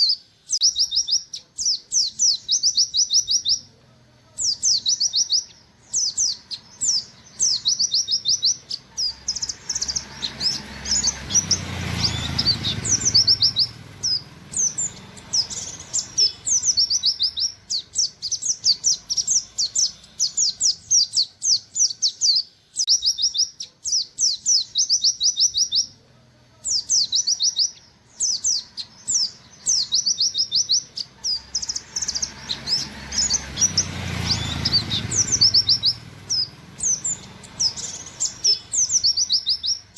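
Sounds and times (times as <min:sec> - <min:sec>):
bird singing high wit notes: 0:00.0 - 0:03.7, 0:04.4 - 0:26.0, 0:26.7 - 0:39.9.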